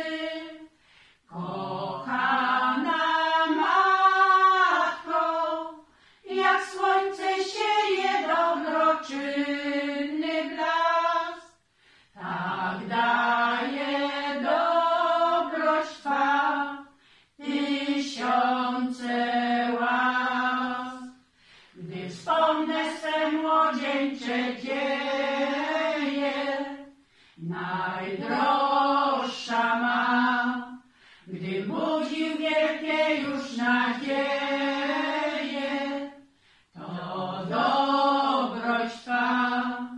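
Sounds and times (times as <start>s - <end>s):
women's choir singing a hymn: 0.0s - 0.7s, 1.3s - 11.6s, 12.2s - 21.2s, 21.8s - 39.9s.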